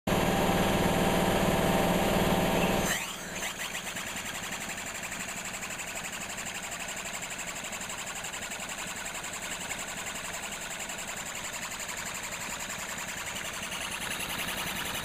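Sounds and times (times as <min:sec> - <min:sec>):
small steam engine chuffing: 0:02.6 - 0:15.0.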